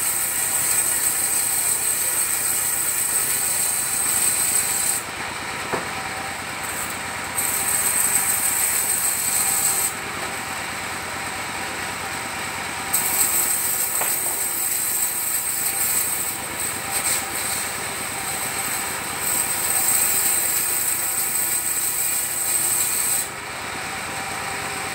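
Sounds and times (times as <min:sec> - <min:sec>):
saw running free: 0:00.0 - 0:05.2, 0:06.2 - 0:24.9
circular saw whining through wood: 0:00.0 - 0:24.9.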